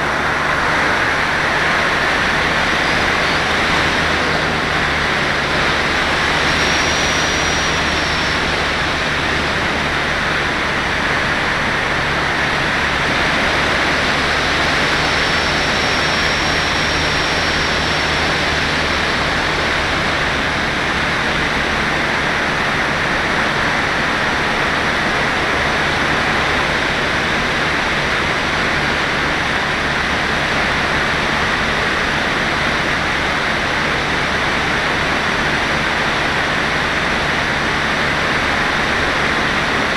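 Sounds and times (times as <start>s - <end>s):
rushing wind noise: 0.0s - 39.9s.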